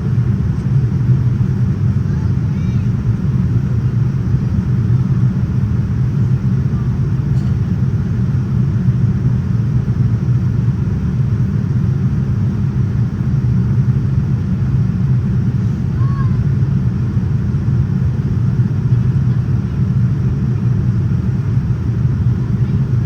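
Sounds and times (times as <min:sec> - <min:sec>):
airliner cabin rumble: 0:00.0 - 0:23.0
roar of airflow and engines: 0:00.0 - 0:23.0.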